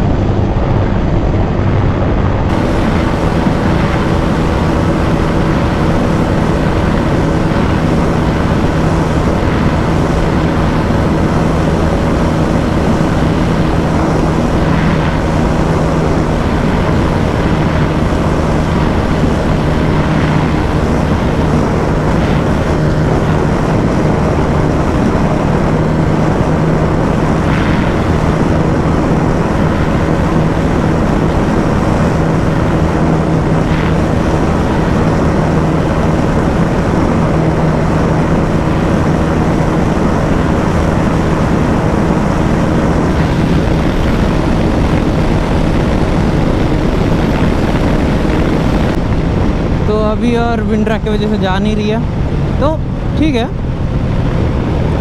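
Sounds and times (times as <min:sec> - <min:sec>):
motorcycle engine running flat out: 0:00.0 - 0:55.0
road noise: 0:00.0 - 0:55.0
rush of wind: 0:00.0 - 0:55.0.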